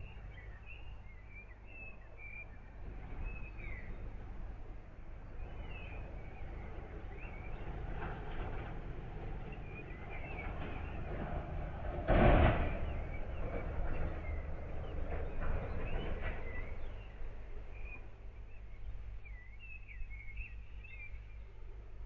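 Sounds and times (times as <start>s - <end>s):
birds chirping: 0.0s - 22.0s
low rumble: 2.8s - 21.4s.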